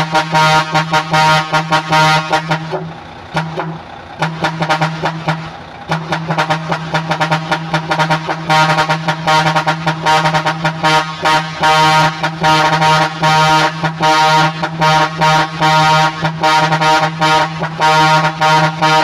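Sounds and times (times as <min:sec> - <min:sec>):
truck horns honking: 0:00.0 - 0:19.0.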